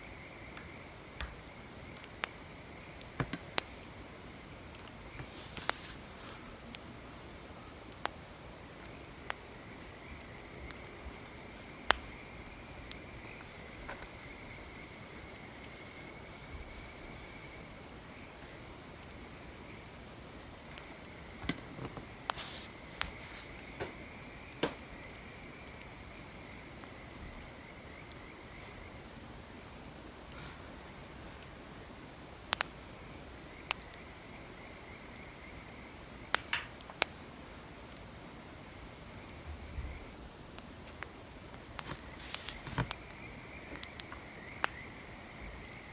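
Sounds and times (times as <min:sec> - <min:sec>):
wood fire crackling: 0:00.0 - 0:34.3, 0:35.1 - 0:39.4, 0:40.2 - 0:45.9.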